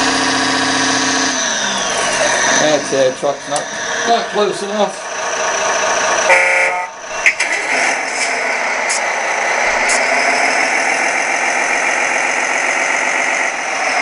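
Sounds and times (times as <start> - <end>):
diesel engine through small speaker: 0.0 - 14.0.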